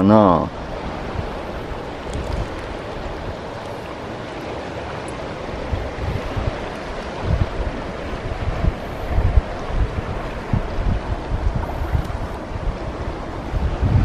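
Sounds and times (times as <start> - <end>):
sea waves washing against rocks: 0.0 - 14.0
wind buffeting microphone: 0.0 - 14.0.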